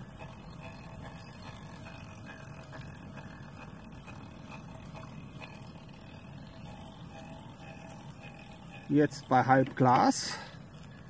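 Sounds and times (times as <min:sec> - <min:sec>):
boiler hiss and rumble: 0:00.0 - 0:11.0.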